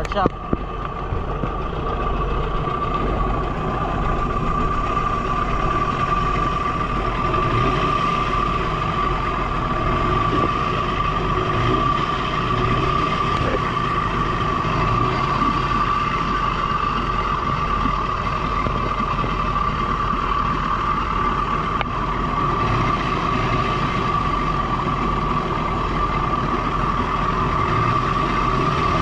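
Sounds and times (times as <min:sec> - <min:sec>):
high whine: 0:00.0 - 0:29.0
outboard motor running: 0:00.0 - 0:29.0
propeller churning water: 0:00.0 - 0:29.0.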